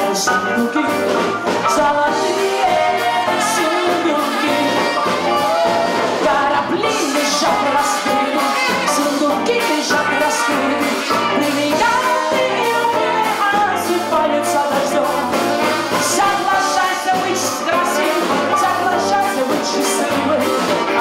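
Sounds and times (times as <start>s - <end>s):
jazz band playing: 0.0s - 21.0s
woman singing: 0.0s - 21.0s.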